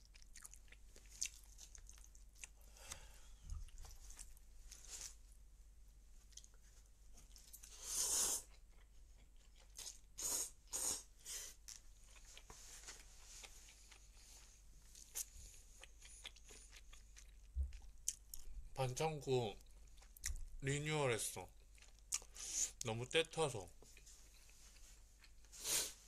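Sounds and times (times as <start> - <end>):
soft chewing: 0.0 - 5.4, 6.1 - 18.8, 19.4 - 20.6, 21.4 - 22.9, 23.6 - 26.0.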